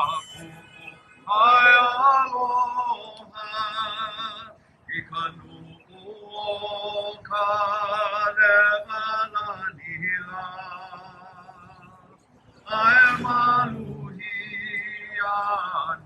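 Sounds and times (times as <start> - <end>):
man singing unaccompanied: 0.0 - 12.0, 12.6 - 16.0.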